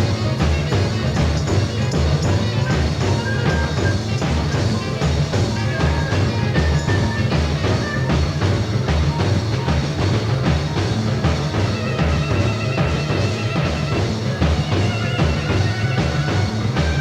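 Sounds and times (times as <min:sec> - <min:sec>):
drum kit beat: 0:00.0 - 0:17.0
live rock band playing: 0:00.0 - 0:17.0.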